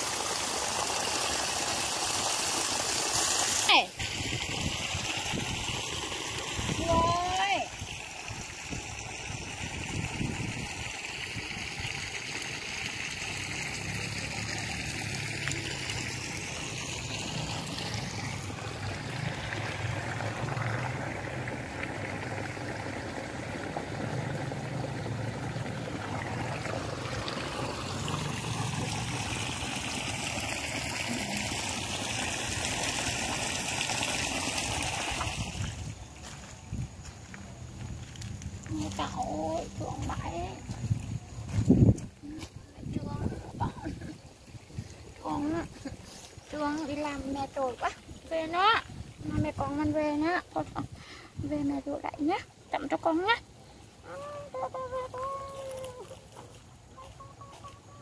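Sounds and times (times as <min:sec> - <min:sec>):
water running from a hose: 0:00.0 - 0:58.0
water trickling: 0:00.0 - 0:58.0.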